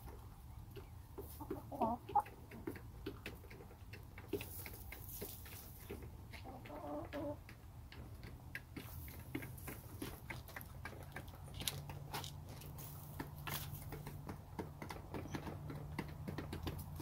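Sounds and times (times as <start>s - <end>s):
hens pecking at feed: 0.0s - 17.0s.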